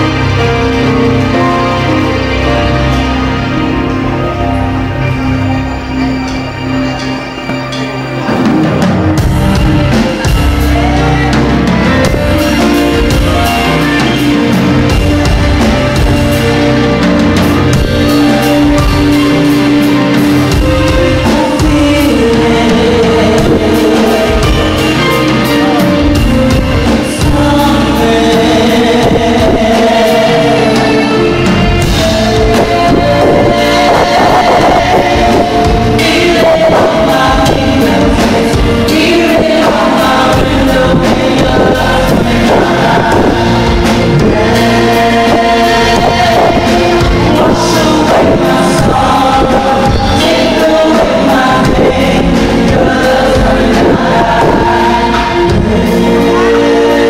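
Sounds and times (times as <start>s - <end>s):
loud music with singing: 0.0s - 57.0s.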